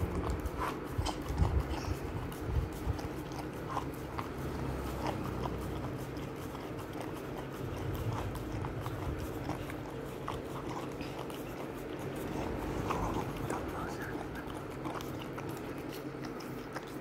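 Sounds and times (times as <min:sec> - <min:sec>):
dog licking and lapping: 0:00.0 - 0:17.0.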